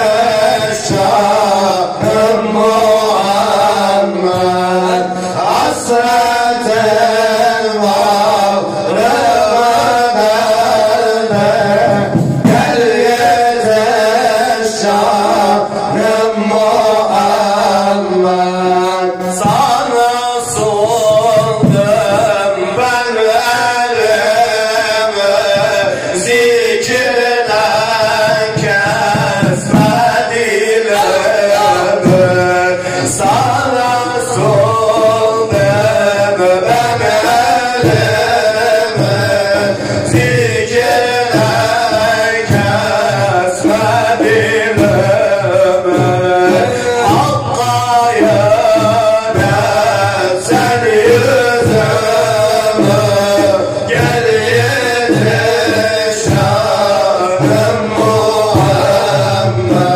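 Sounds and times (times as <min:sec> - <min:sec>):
man singing a hymn: 0:00.0 - 0:59.9.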